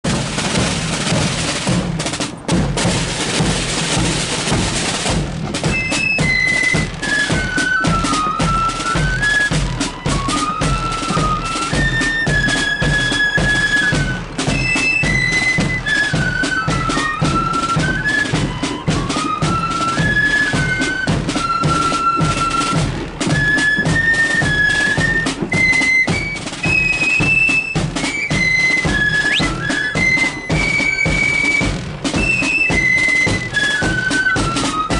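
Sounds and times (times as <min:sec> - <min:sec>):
snare drum roll: 0:00.0 - 0:34.9
flutes playing high melody: 0:02.8 - 0:34.9.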